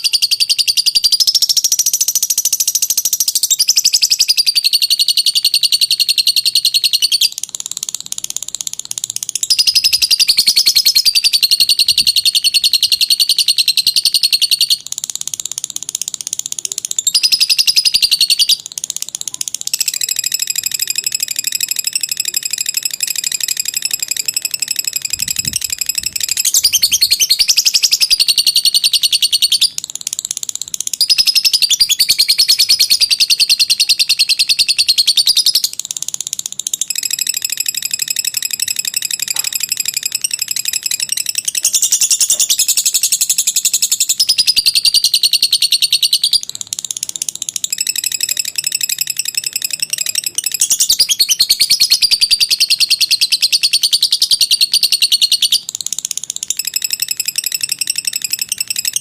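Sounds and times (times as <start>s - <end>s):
lovebird rapid trilling: 0.0s - 59.0s.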